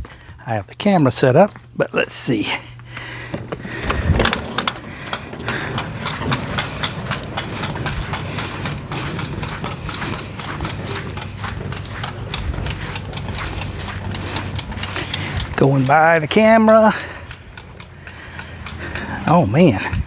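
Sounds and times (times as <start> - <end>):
hose reel ratchet clicking: 0.0 - 20.0
low rumble of hose reel: 0.0 - 20.0.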